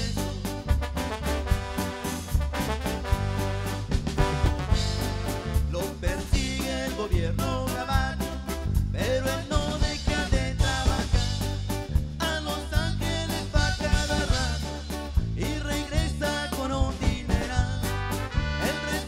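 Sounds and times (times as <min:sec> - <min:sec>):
live band playing dance music: 0:00.0 - 0:19.0.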